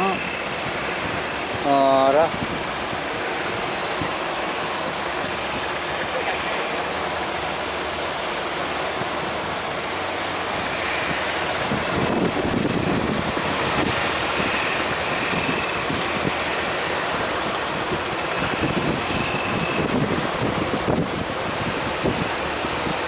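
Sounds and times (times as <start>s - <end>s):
sea surf breaking: 0.0s - 23.0s
wind buffeting microphone: 0.0s - 23.0s.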